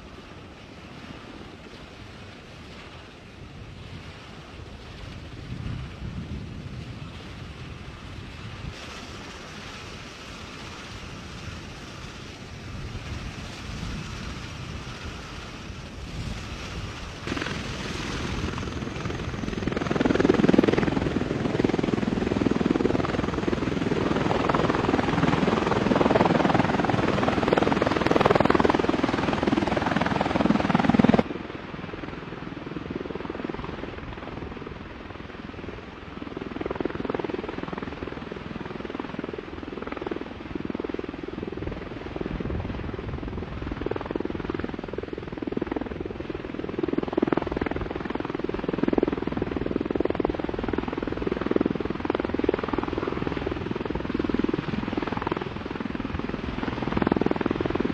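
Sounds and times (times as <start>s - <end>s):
aircraft rotor rumble: 0.0s - 57.9s.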